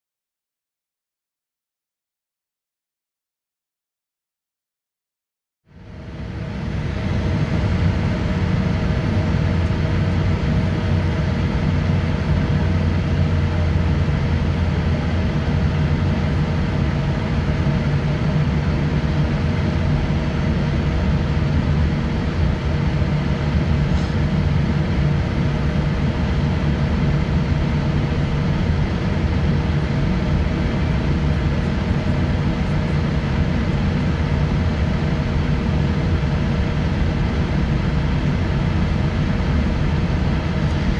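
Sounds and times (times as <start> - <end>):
aircraft engine low rumble: 5.7 - 40.9.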